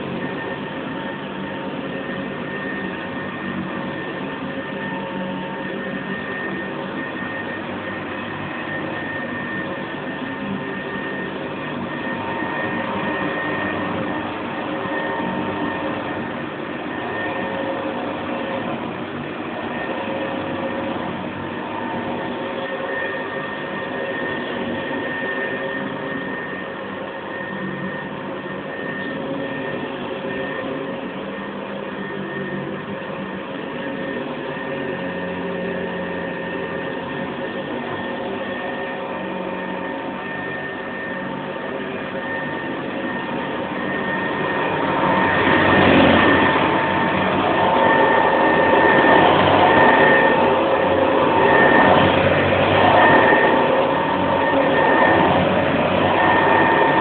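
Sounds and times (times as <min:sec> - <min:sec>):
vacuum cleaner motor humming: 0:00.0 - 0:57.0.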